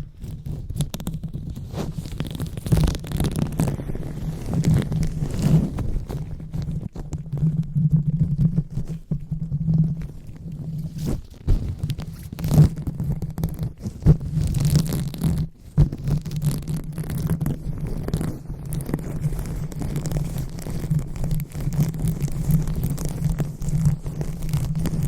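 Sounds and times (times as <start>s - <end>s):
hands rubbing on microphone: 0.0s - 25.0s.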